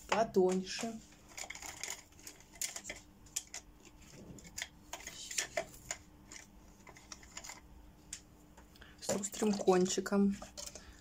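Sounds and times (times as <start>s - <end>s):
paintbrushes clicking and tapping: 0.1s - 11.0s.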